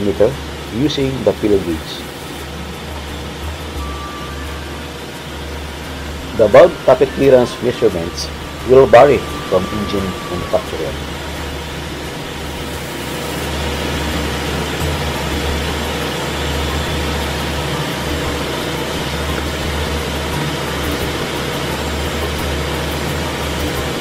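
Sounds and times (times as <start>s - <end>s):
engine room machinery drone: 0.0s - 24.0s.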